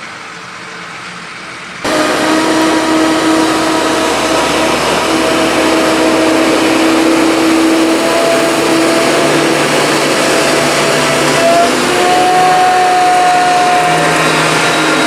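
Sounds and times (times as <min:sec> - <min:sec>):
heavy diesel machinery drone: 0:01.8 - 0:15.0.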